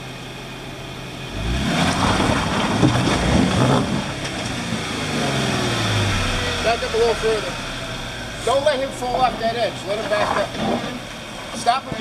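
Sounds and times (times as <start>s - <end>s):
engine idling and revving: 0.0s - 12.0s
tires scrabbling over rock: 1.3s - 12.0s.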